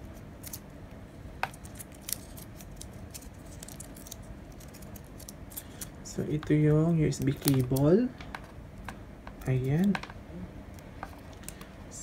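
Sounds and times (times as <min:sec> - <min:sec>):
cable rustling and clicking: 0:01.4 - 0:11.7.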